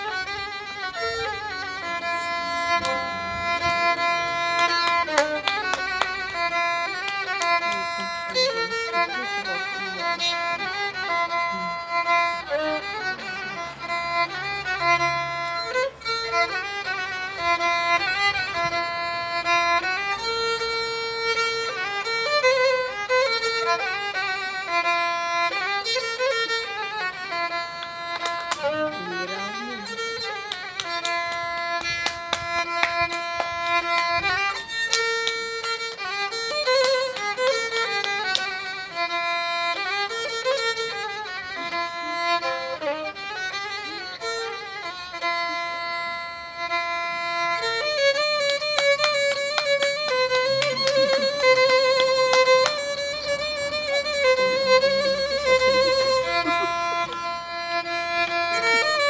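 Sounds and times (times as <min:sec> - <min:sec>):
solo violin folk melody: 0:00.0 - 0:59.0.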